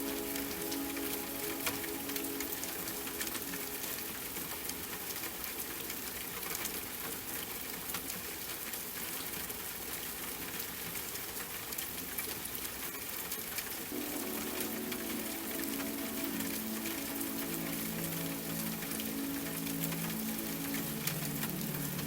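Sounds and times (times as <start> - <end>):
raindrops ticking on hard surface: 0.0 - 22.0
steady rain: 0.0 - 22.0.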